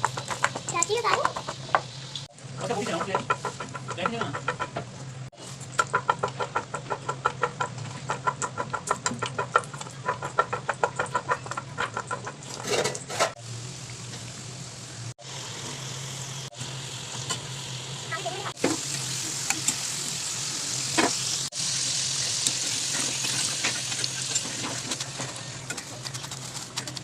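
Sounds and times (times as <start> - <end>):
fries sizzling in hot oil: 0.0 - 27.0.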